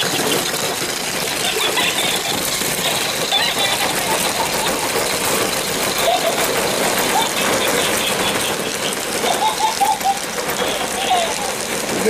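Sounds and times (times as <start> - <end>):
plastic balls clattering: 0.0 - 12.0
toy motor whirring: 0.0 - 12.0.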